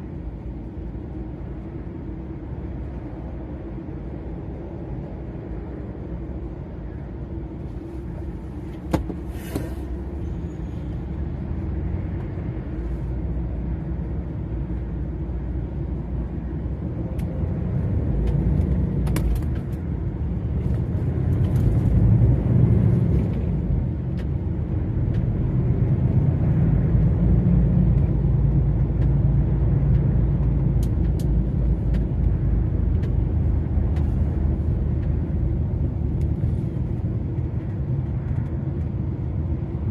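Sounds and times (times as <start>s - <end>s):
lorry diesel engine drone: 0.0s - 39.9s.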